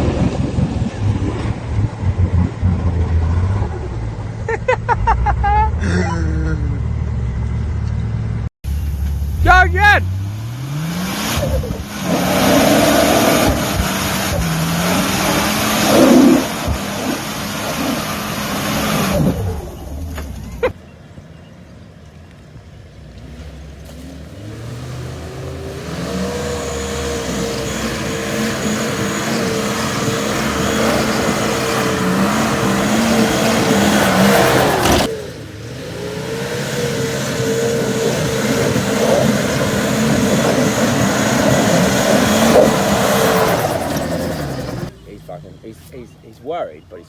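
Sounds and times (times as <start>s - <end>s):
turbocharged engine revving: 0.0s - 20.8s, 22.9s - 47.0s.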